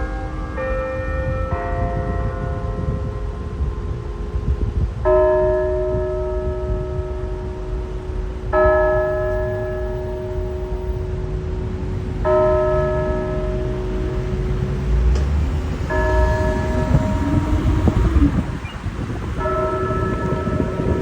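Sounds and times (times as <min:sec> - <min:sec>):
large bell ringing: 0:00.0 - 0:21.0.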